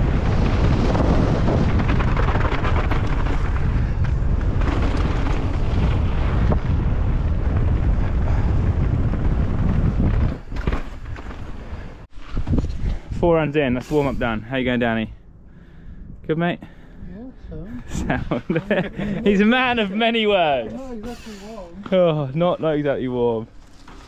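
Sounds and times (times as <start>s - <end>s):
wind buffeting microphone: 0.0s - 21.1s.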